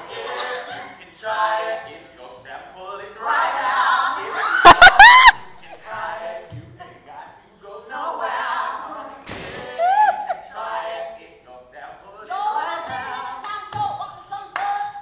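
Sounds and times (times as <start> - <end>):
voices singing a cappella: 0.0 - 15.0.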